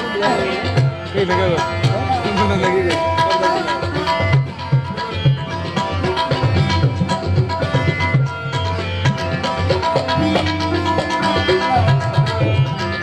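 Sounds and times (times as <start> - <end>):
fast tabla-style drum rhythm: 0.0 - 13.0
sustained keyboard melody: 0.0 - 13.0.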